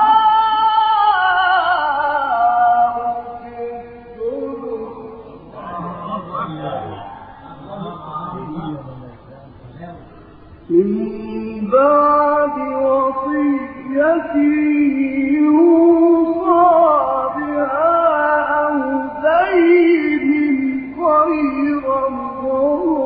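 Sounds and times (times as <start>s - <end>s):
man reciting melodically: 2.1s - 23.0s.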